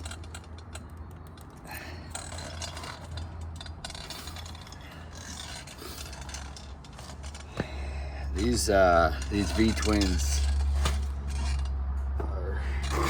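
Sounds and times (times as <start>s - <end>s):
mechanical scraping and rattling: 0.0s - 13.0s.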